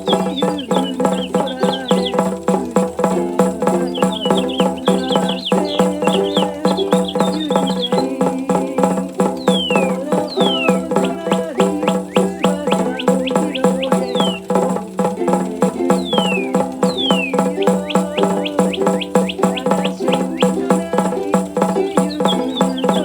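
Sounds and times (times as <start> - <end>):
steady musical notes: 0.0 - 23.0
tambourine rattling: 0.0 - 23.0
toy bird chirping: 0.0 - 23.0.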